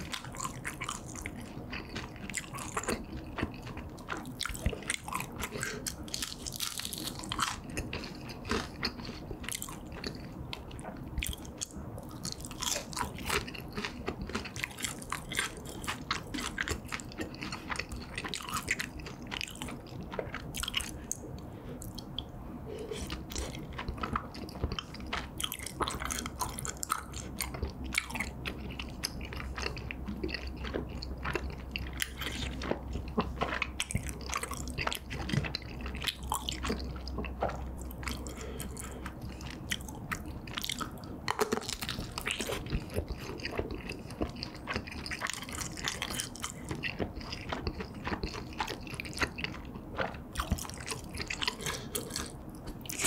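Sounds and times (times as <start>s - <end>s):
chewing and crunching fried food: 0.0s - 53.0s.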